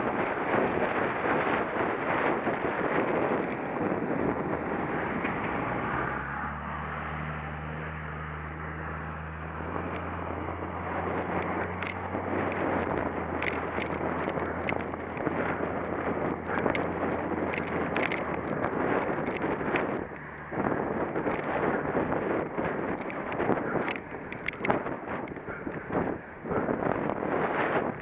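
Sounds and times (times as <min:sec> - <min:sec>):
bike tyres rumbling: 0:00.0 - 0:28.0
wind rushing over microphone: 0:00.0 - 0:28.0
sharp clicks and rattles: 0:02.4 - 0:06.5, 0:08.4 - 0:28.0.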